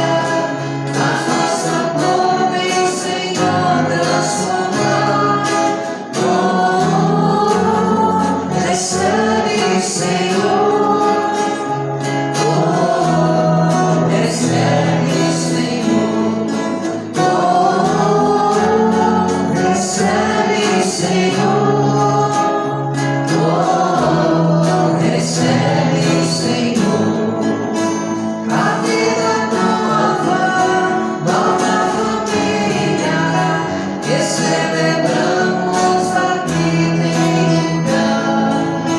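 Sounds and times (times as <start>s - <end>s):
group singing a hymn: 0.0s - 38.9s.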